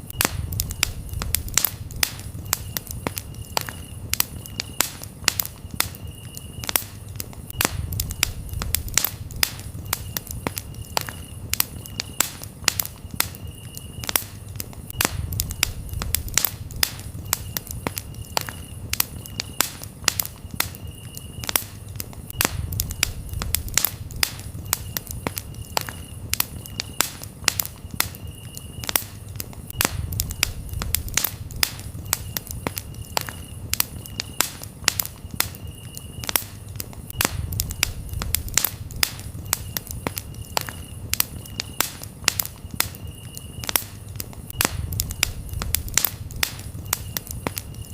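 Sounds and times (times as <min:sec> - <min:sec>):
campfire crackling and popping: 0:00.0 - 0:47.9
cricket chirping trills: 0:00.0 - 0:47.9
low rumble of burning wood: 0:00.0 - 0:47.9.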